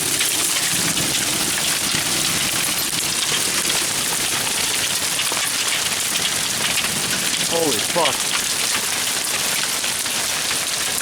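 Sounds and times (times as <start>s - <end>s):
hail and rain pelting down: 0.0s - 11.0s.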